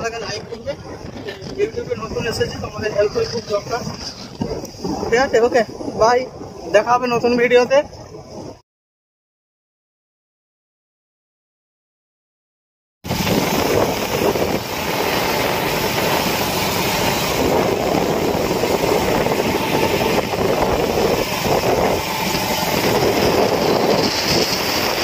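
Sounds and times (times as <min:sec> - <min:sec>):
road and wind noise: 0:00.0 - 0:08.6, 0:13.0 - 0:25.0.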